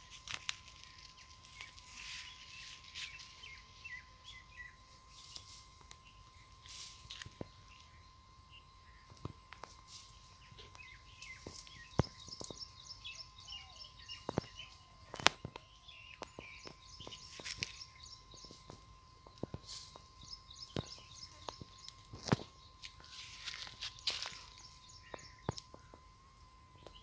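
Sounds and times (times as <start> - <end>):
clicks and rustles in undergrowth: 0.0 - 8.0, 8.8 - 26.0
small birds chirping: 0.0 - 26.1, 26.7 - 27.0
faint steady high tone: 0.0 - 27.0.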